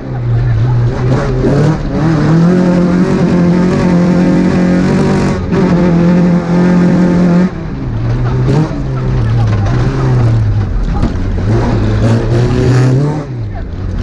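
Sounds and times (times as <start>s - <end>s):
rally car engine at high revs: 0.0s - 14.0s.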